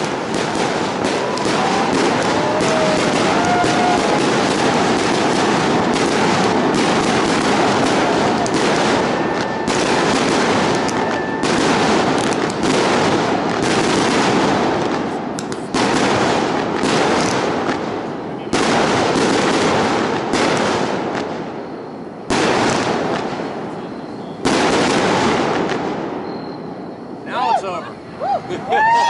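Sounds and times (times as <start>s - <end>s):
fireworks banging and crackling: 0.0s - 29.0s.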